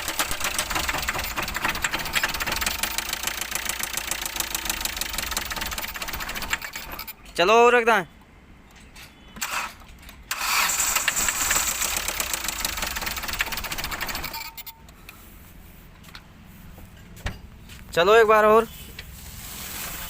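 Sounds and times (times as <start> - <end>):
diesel engine cranking: 0.0 - 7.8, 8.8 - 20.0.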